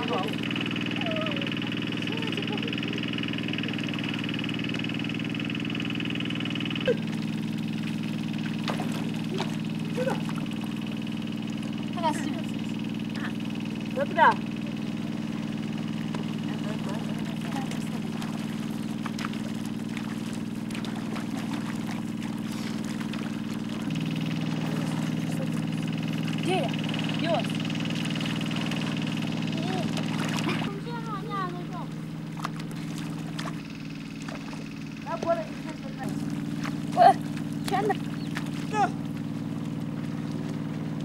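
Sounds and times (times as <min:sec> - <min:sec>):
small engine running steadily: 0:00.0 - 0:41.0.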